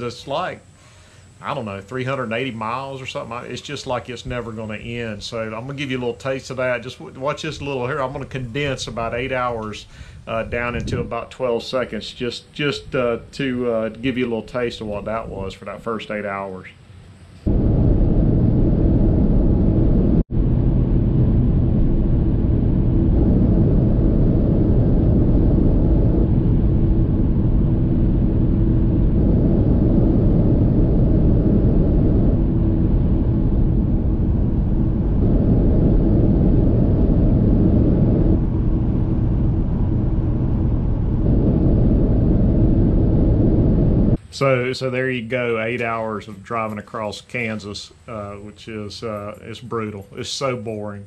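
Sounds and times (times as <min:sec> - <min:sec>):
faint hum: 0:00.0 - 0:51.0.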